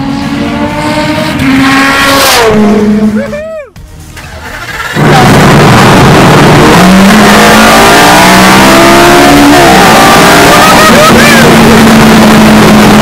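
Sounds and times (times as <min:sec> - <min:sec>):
car engine accelerating: 0:00.0 - 0:03.5, 0:04.2 - 0:13.0.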